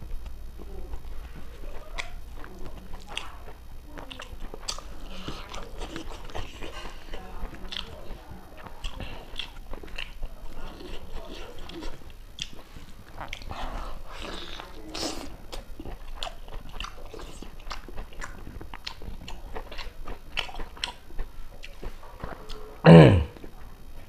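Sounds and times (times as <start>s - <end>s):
low steady hum: 0.0s - 24.0s
chewing and lip smacking: 0.1s - 22.8s, 23.4s - 24.0s.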